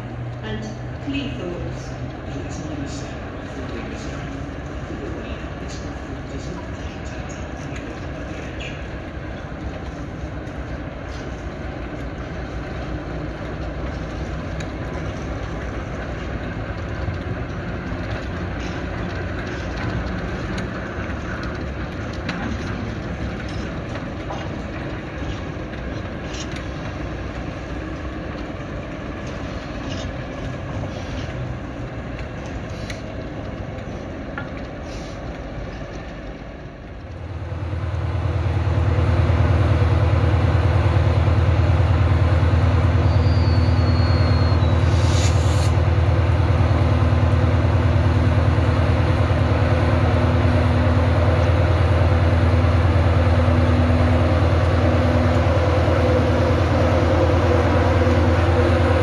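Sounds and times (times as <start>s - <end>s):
train running: 0.0s - 59.0s.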